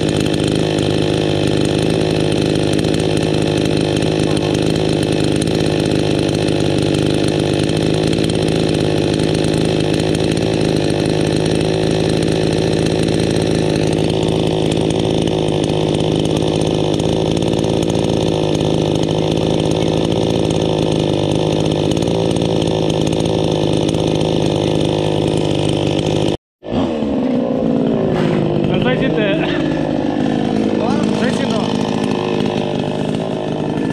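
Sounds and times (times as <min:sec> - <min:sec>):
chainsaw idling: 0:00.0 - 0:33.9.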